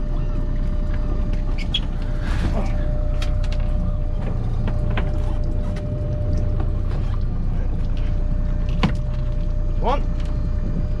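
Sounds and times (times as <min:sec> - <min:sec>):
boat engine rumbling: 0:00.0 - 0:11.0
steady whine: 0:00.0 - 0:11.0.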